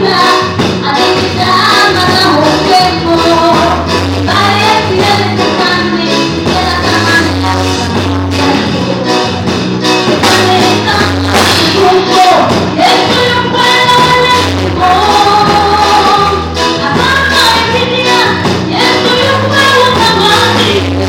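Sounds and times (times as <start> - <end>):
woman singing gospel song: 0.0 - 9.3, 10.0 - 21.0
live band playing: 0.0 - 21.0.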